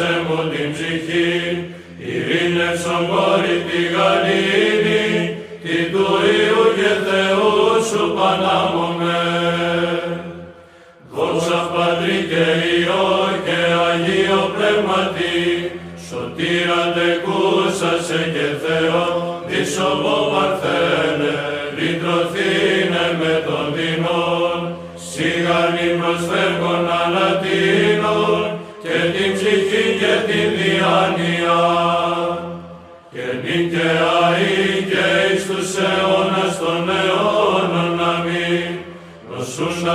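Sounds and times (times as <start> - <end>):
choir chanting melody: 0.0 - 39.9.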